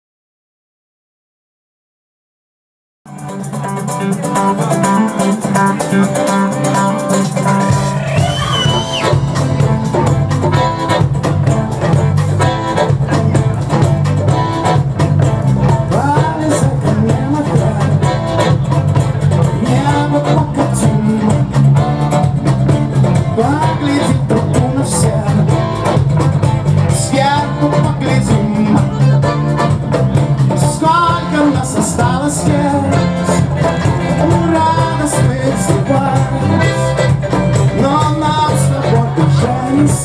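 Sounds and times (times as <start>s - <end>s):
band music with guitar: 3.1s - 40.0s.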